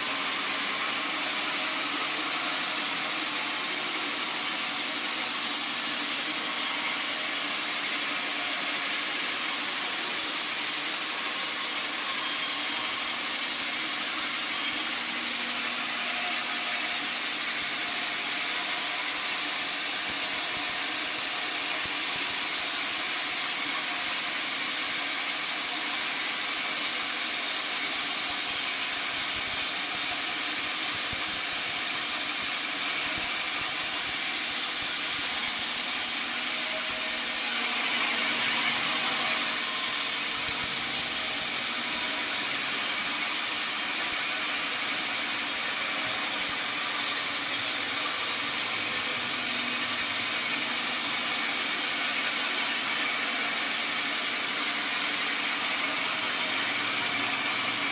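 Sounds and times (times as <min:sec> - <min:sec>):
sawmill machinery hissing: 0:00.0 - 0:57.9.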